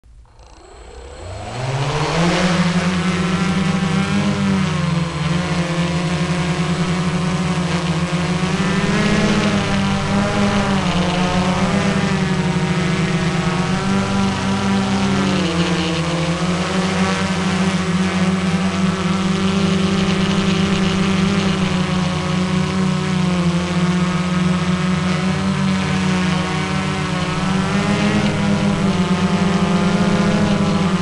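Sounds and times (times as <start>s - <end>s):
drone motors buzzing: 0.0s - 31.0s.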